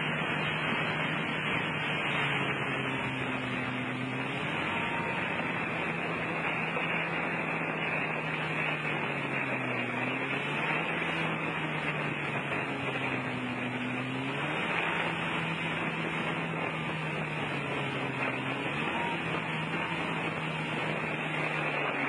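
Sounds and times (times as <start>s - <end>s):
boat engine drone: 0.0s - 22.0s
spray and rushing water: 0.0s - 22.0s.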